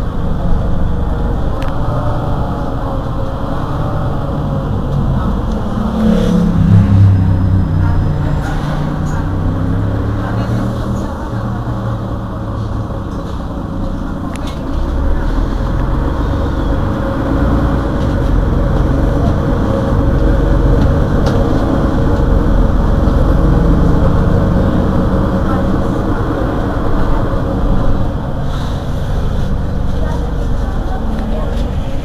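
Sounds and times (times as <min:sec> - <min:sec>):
bus engine low rumble: 0:00.0 - 0:32.0.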